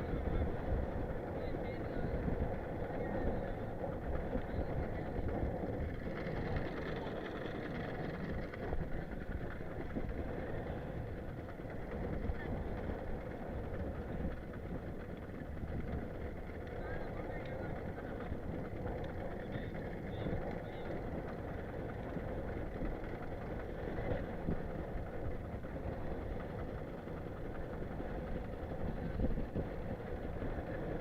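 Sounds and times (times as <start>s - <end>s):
boat engine running: 0.0s - 31.0s
wind buffeting microphone: 0.0s - 31.0s.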